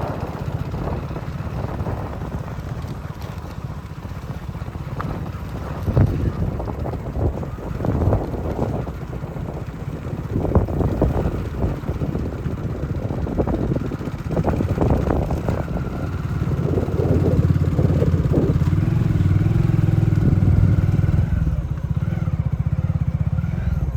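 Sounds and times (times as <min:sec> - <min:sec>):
small engine running: 0:00.0 - 0:23.9.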